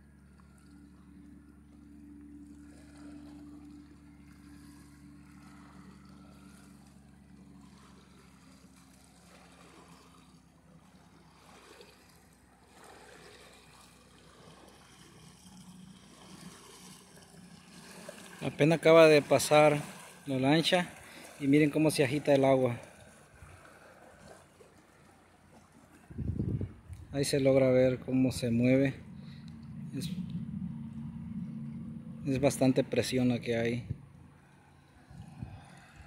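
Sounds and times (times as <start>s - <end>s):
distant motorboat engine: 0.0s - 36.0s
soft wash of water: 0.0s - 36.0s.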